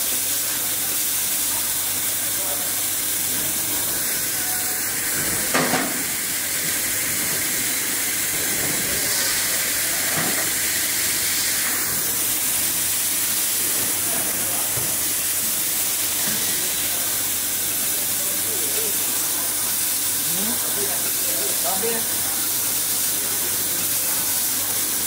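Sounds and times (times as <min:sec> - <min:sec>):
laser welding machine hissing: 0:00.0 - 0:25.0.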